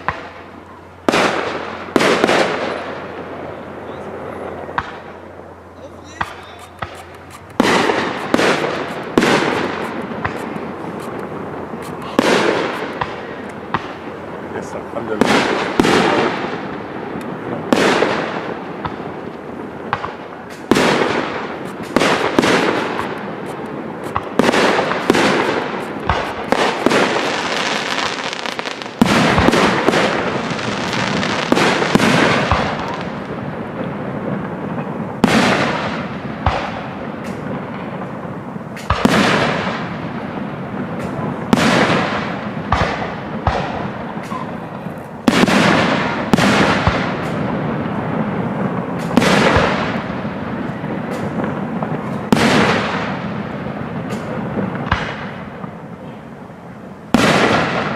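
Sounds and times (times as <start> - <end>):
fireworks bursting: 0.0 - 57.9.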